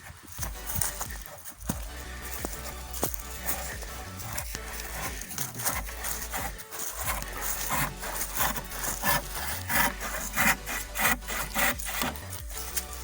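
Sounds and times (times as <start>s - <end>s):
hand saw cutting wood: 0.0s - 13.0s.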